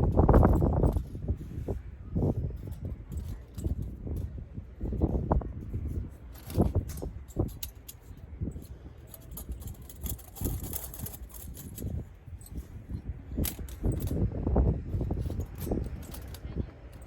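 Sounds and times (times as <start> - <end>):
wind buffeting microphone: 0.0 - 17.0
metal gear clinking: 0.1 - 17.0.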